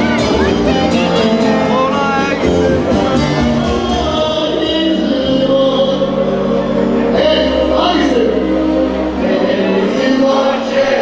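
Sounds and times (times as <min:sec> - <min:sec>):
folk band playing: 0:00.0 - 0:11.0
person singing: 0:00.0 - 0:11.0.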